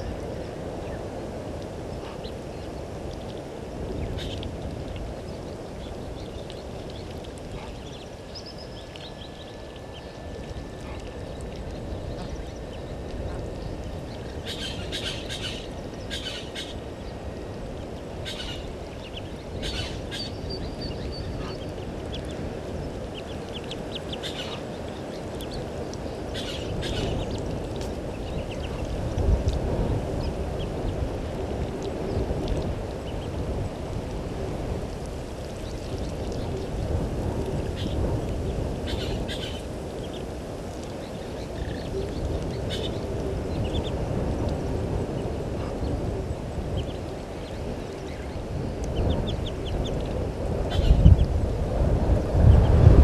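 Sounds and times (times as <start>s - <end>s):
low background rumble: 0.0s - 53.0s.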